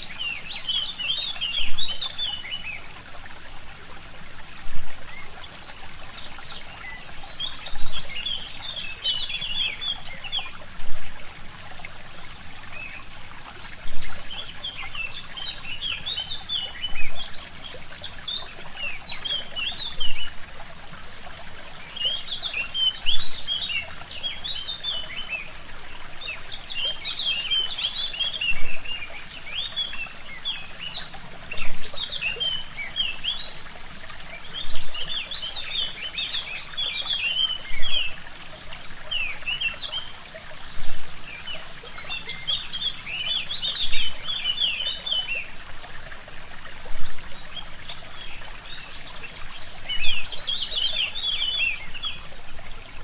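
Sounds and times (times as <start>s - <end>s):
forest stream trickling: 0.0s - 53.0s
songbirds chirping: 0.0s - 53.0s.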